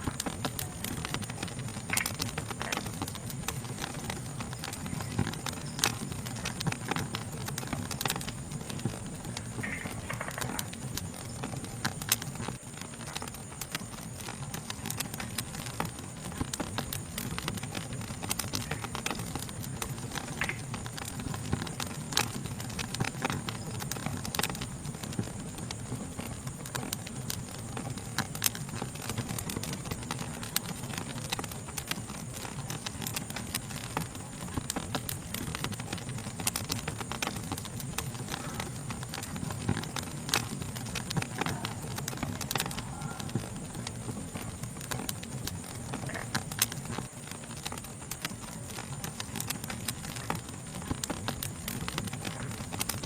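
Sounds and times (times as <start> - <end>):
insect chorus trilling: 0.0 - 53.0
wood fire crackling: 0.0 - 53.0.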